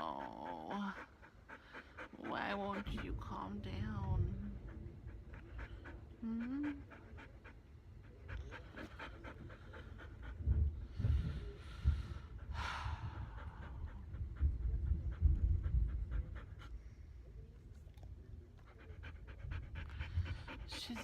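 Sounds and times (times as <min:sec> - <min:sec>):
dog panting heavily: 0:00.0 - 0:17.3, 0:18.5 - 0:21.0.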